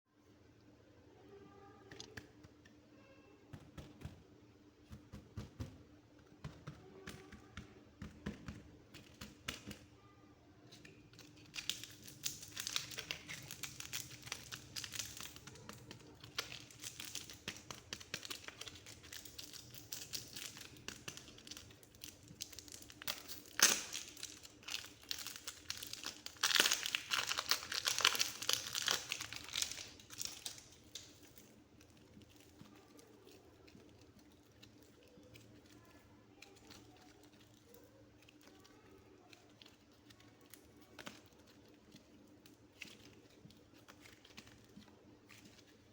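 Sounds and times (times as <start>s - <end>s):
clay crackling when squeezed: 6.2s - 45.9s.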